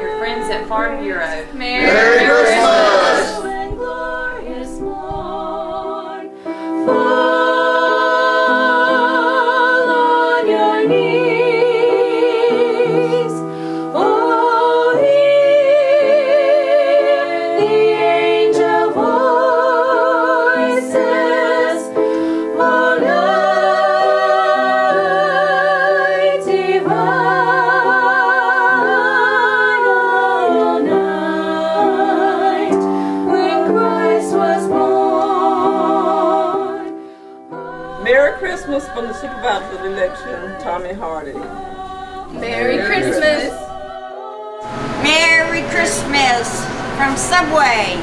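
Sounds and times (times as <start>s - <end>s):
accompanying music: 0.0s - 48.0s
singing with vibrato: 0.0s - 48.0s.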